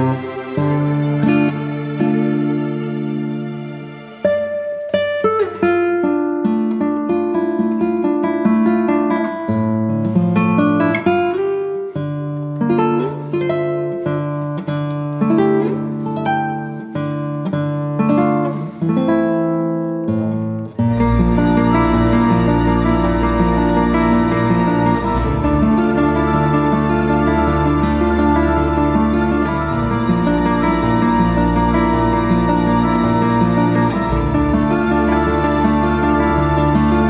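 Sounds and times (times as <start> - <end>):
acoustic guitar music: 0.0 - 37.0.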